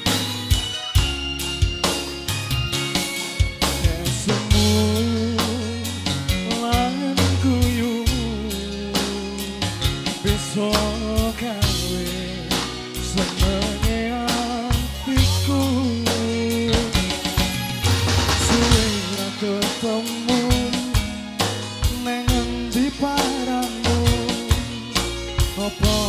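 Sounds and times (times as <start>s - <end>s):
deep bass: 0.0s - 26.0s
drum kit beat: 0.0s - 26.0s
live band music: 0.0s - 26.0s.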